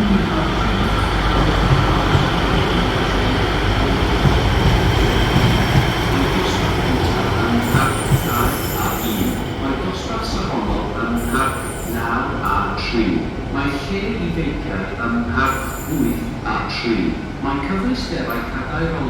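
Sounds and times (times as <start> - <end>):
diesel train rumbling: 0.0 - 19.0.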